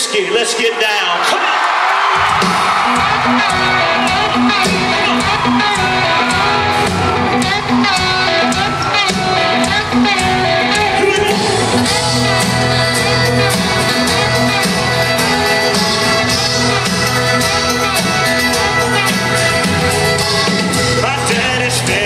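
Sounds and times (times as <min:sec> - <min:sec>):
live country band playing: 0:02.0 - 0:22.0.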